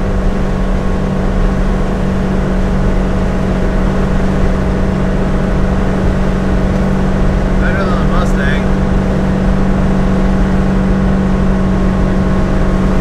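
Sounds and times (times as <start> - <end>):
engine and exhaust drone: 0.0 - 13.0
road noise: 0.0 - 13.0.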